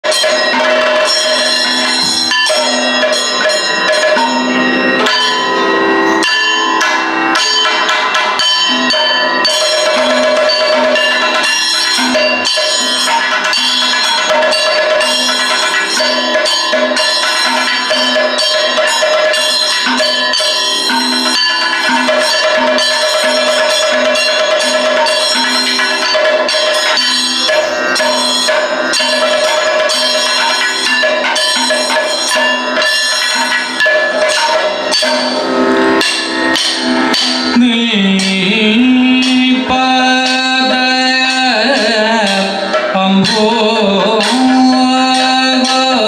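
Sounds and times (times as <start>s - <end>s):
drums beaten in fast rhythm: 0.0s - 46.0s
ringing cymbals: 0.0s - 46.0s.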